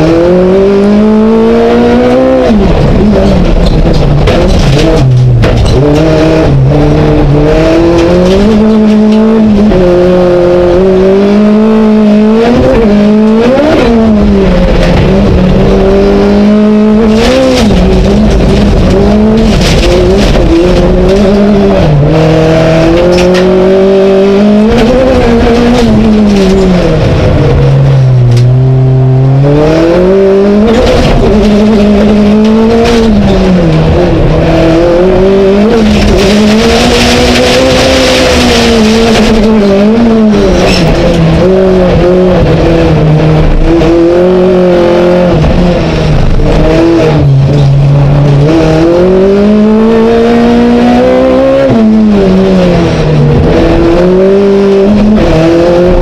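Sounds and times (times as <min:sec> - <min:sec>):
race car engine revving: 0:00.0 - 0:56.0
tyre and road noise: 0:00.0 - 0:56.0.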